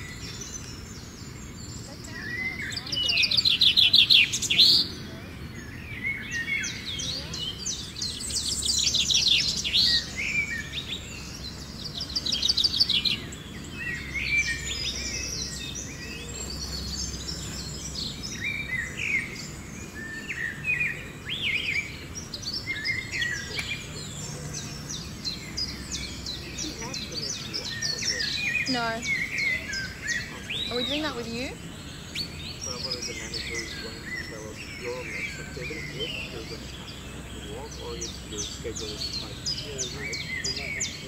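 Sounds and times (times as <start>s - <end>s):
birds trilling and chirping: 0.0s - 41.0s.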